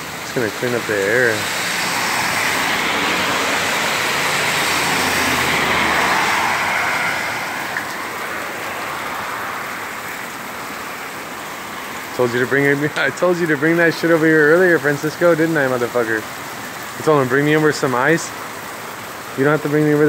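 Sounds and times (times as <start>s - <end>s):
car driving through water: 0.0s - 20.0s
heavy rain falling: 0.0s - 20.0s.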